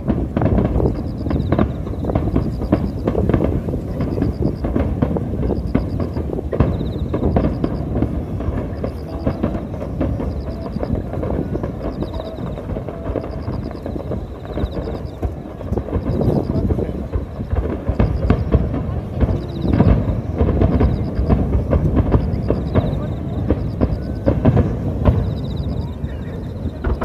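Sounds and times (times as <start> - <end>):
fireworks booming: 0.0 - 27.0
fireworks pops and crackles: 0.0 - 27.0.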